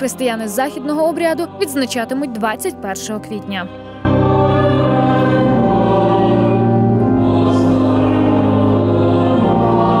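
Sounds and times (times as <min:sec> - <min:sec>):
choir singing a hymn: 0:00.0 - 0:10.0.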